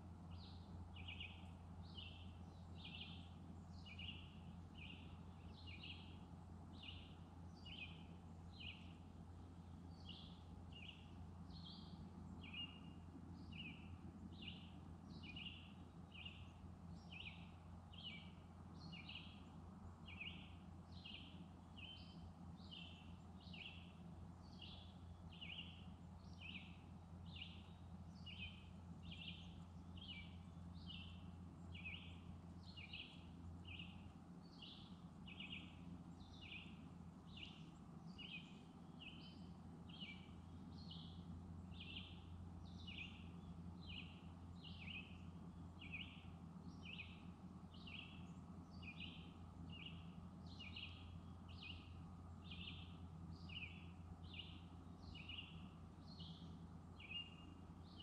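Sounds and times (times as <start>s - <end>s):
low steady hum: 0.0s - 58.0s
bird chirping: 0.3s - 58.0s.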